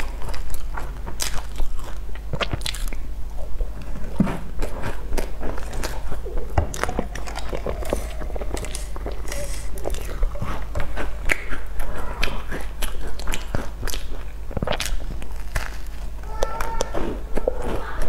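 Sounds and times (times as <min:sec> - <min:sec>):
crunching crisp pastry: 0:00.0 - 0:18.0.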